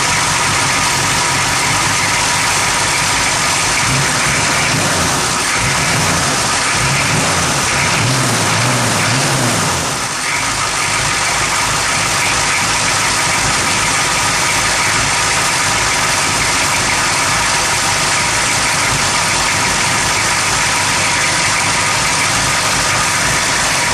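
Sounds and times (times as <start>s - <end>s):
engine idling roughly: 0.0s - 23.9s.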